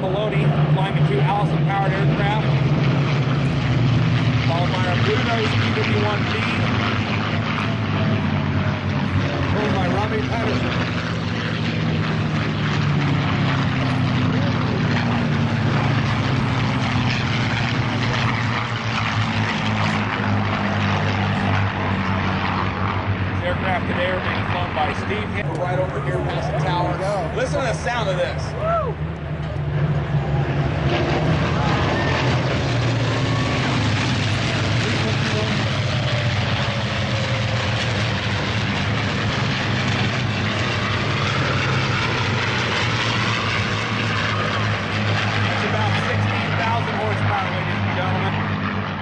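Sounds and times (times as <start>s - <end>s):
propeller planes droning past: 0.0s - 49.0s.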